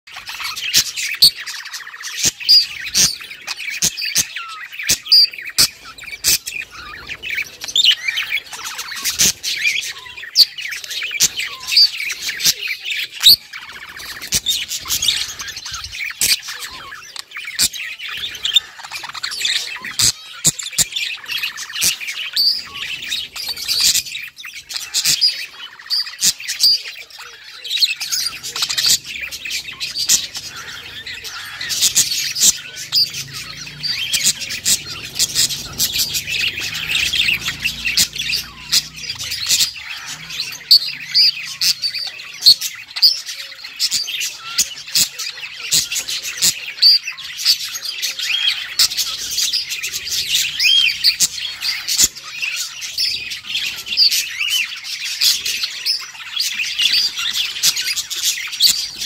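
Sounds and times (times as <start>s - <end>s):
budgerigars chattering: 0.1s - 59.0s.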